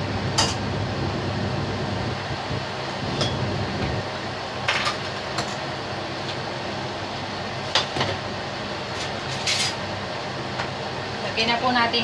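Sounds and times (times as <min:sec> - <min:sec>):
water boiling in a wok: 0:00.0 - 0:12.0.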